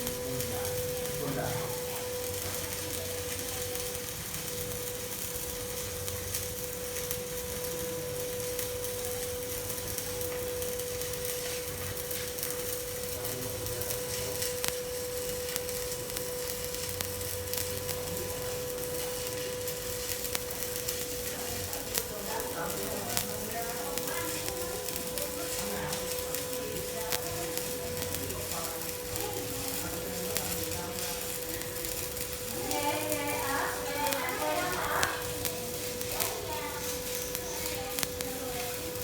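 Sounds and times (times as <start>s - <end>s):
constant hum: 0.0s - 39.0s
welding arc crackling hiss: 0.0s - 39.0s.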